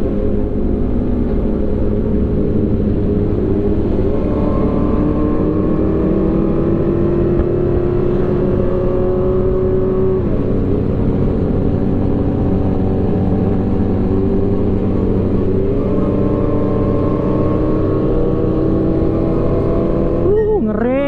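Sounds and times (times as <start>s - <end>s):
motorcycle engine revving through gears: 0.0s - 21.0s.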